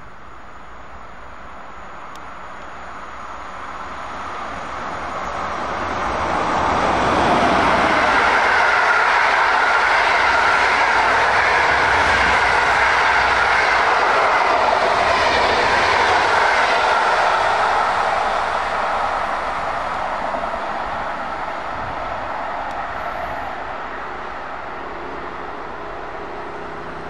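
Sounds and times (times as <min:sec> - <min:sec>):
train wheels running on track: 0:00.0 - 0:27.0.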